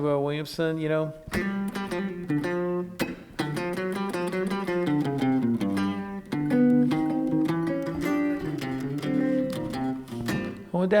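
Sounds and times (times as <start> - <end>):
blues guitar picked notes: 1.2 - 10.8.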